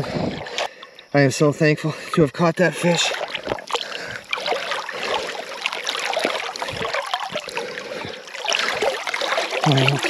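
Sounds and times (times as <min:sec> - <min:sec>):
river water splashing: 0:00.0 - 0:10.0.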